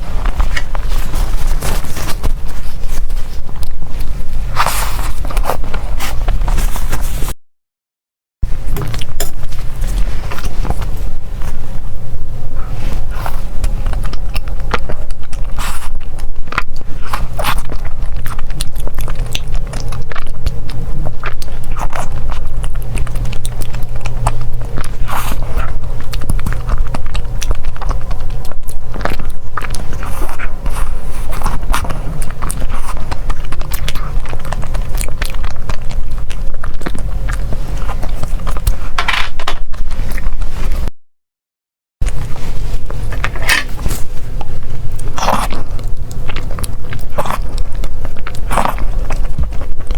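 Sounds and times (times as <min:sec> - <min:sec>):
biting and chewing food: 0:00.0 - 0:07.4, 0:08.4 - 0:40.9, 0:42.0 - 0:49.9
steady low hum: 0:00.0 - 0:07.4, 0:08.4 - 0:40.9, 0:42.0 - 0:49.9.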